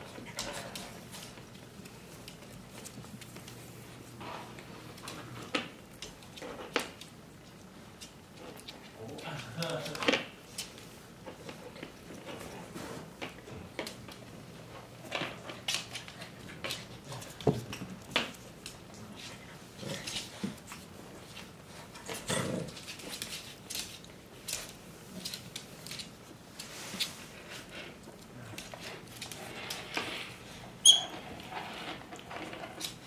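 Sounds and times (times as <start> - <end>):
dogs scuffling: 0.0 - 33.0.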